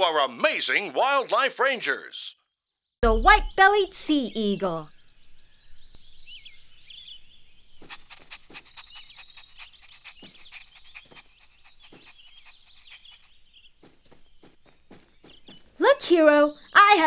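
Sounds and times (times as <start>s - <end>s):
small birds chirping and twittering: 2.4s - 17.0s.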